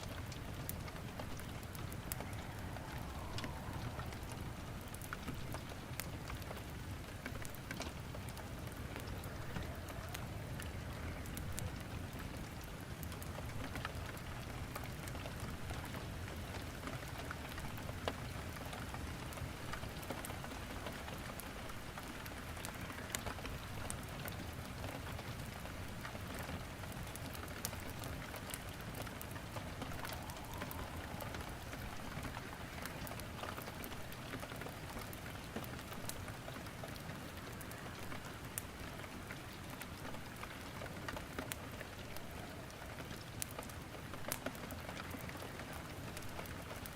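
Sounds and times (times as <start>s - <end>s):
steady rainfall: 0.0s - 46.9s
wood fire crackling: 0.0s - 46.9s.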